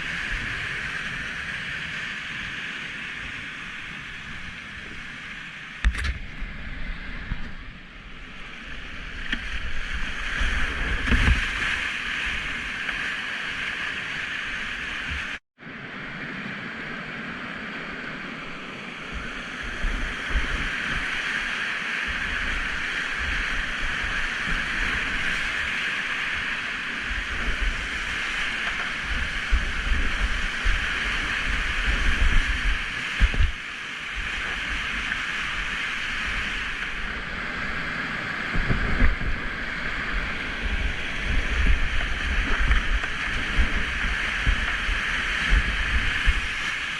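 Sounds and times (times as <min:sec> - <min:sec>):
whitewater rushing over rocks: 0:00.0 - 0:15.4, 0:17.8 - 0:46.9
wind buffeting microphone: 0:00.0 - 0:15.4, 0:17.9 - 0:46.9.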